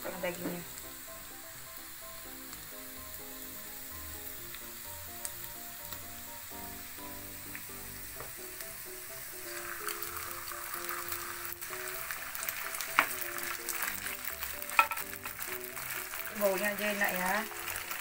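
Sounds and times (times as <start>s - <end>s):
aromatics sizzling in hot oil: 0.0s - 18.0s
melodic background music: 0.0s - 18.0s.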